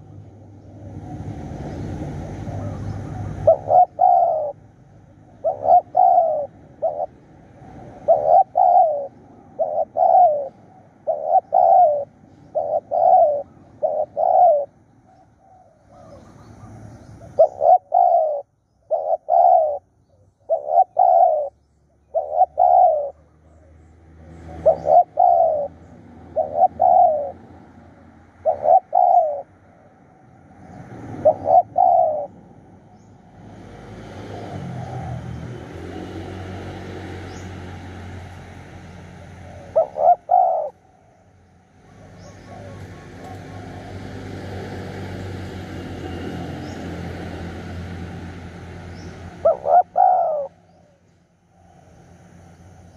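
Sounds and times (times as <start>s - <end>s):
doves cooing: 0.0s - 30.0s, 31.0s - 47.9s, 48.7s - 51.8s.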